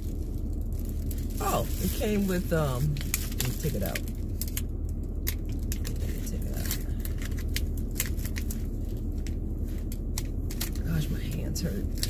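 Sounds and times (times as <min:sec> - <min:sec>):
plastic packet crinkling: 0:00.0 - 0:12.0
steady low hum: 0:00.0 - 0:12.0.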